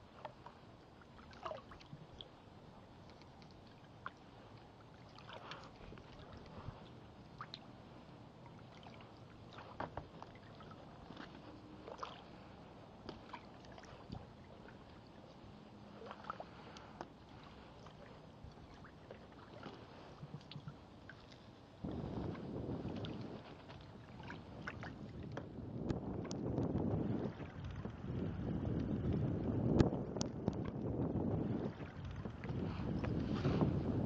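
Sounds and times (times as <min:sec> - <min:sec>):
paddle splashes and drips: 0:00.0 - 0:33.8
water washing along hull: 0:00.0 - 0:34.0.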